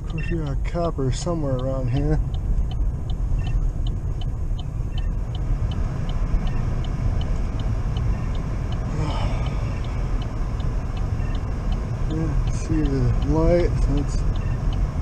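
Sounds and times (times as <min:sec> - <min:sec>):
car road and engine rumble: 0:00.0 - 0:15.0
light regular ticking: 0:00.0 - 0:15.0.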